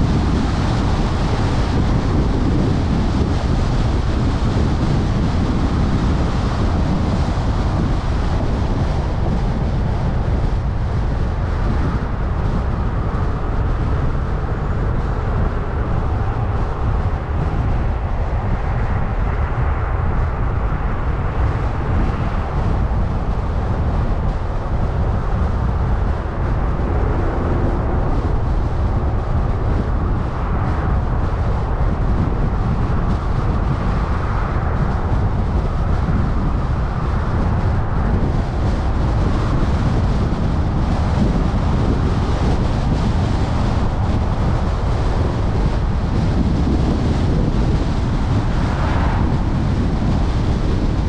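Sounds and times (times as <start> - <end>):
heavy low rumble: 0.0 - 51.0
road and tyre noise: 0.0 - 51.0.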